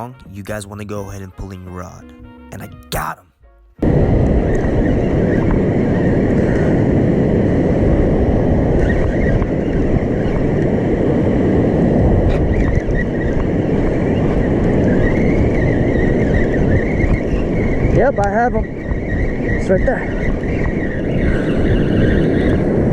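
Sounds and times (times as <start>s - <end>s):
wind rumbling on microphone: 3.8s - 22.9s.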